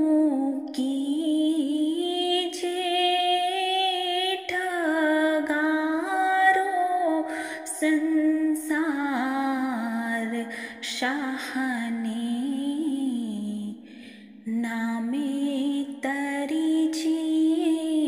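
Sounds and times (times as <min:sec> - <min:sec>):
woman singing a devotional hymn: 0:00.0 - 0:18.0.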